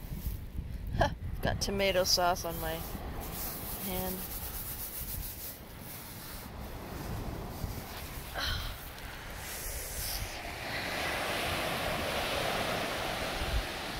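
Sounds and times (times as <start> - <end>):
wind rumbling on microphone: 0.0 - 13.9
surf washing on beach: 1.6 - 13.9.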